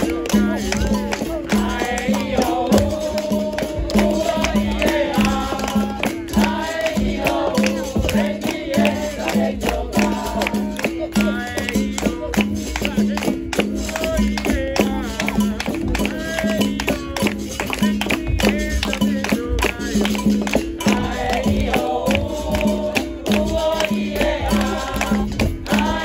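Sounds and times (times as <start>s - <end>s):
berimbaus playing rhythm: 0.0s - 26.0s
rattles and hand percussion: 0.0s - 26.0s
voices singing call-and-response: 0.0s - 26.0s.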